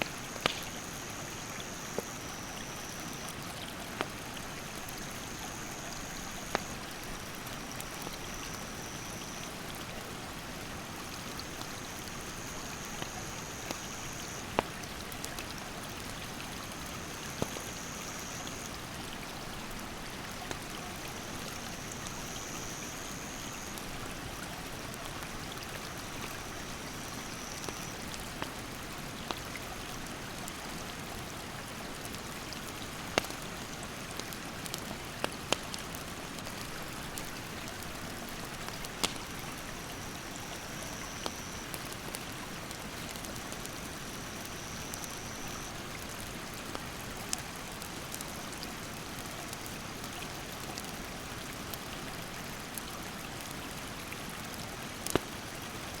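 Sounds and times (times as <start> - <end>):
campfire pops and crackles: 0.0 - 8.7, 10.9 - 18.3, 20.3 - 22.5, 23.5 - 29.6, 32.0 - 51.8, 54.4 - 55.6.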